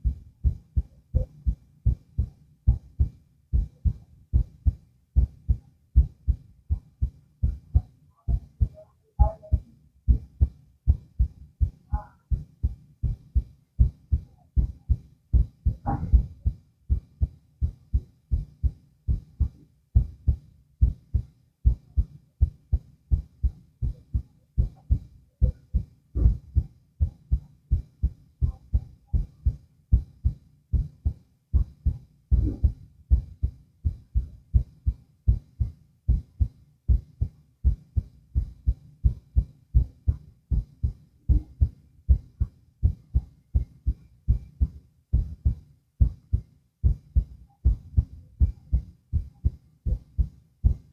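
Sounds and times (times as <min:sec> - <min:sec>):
heartbeat through stethoscope: 0:00.0 - 0:50.9.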